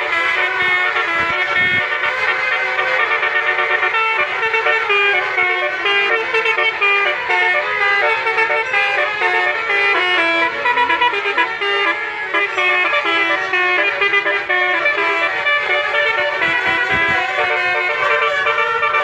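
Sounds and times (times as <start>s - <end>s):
musical horn playing melody: 0.0s - 19.0s.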